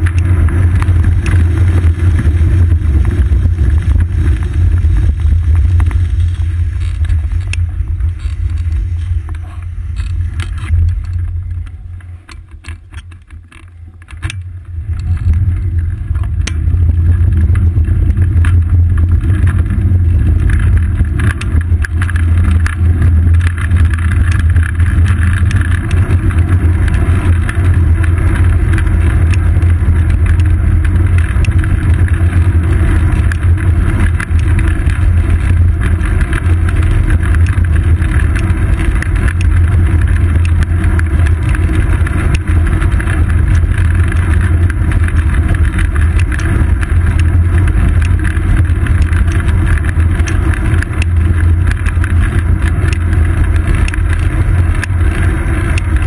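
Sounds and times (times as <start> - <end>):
road rumble: 0.0 - 56.0
wind rush: 0.0 - 56.0.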